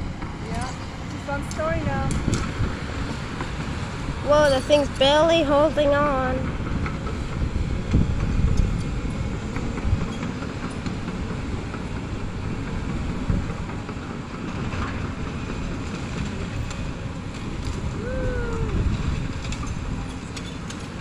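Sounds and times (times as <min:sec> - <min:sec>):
excavator diesel engine: 0:00.0 - 0:21.0.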